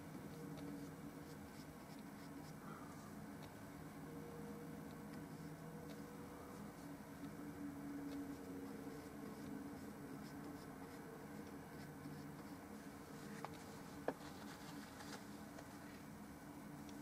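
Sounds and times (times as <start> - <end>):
low steady hum: 0.0 - 17.0
paint brush scratching panel: 0.1 - 3.5, 4.4 - 15.5.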